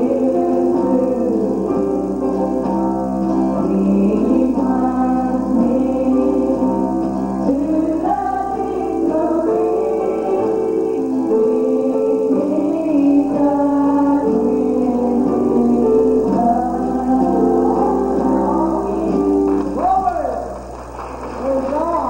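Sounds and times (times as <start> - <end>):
gospel choir singing: 0.0 - 20.7
instrumental accompaniment: 0.0 - 22.0.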